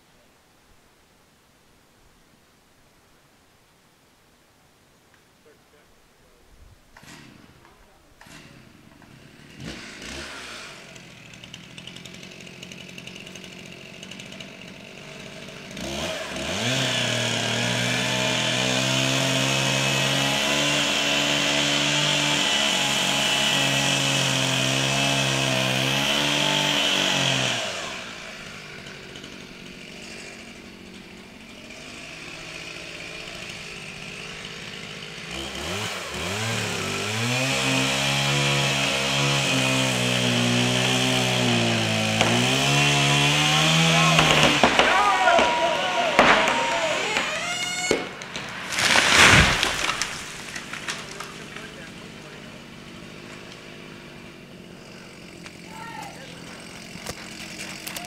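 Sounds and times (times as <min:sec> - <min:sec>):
chainsaw cutting into a tree: 0:06.9 - 0:58.0.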